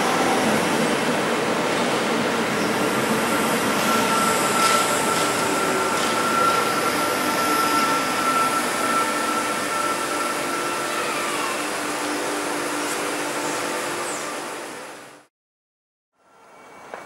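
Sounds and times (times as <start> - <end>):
electric train passing: 0.0 - 15.3
high train motor whine: 0.0 - 15.3, 16.2 - 17.0.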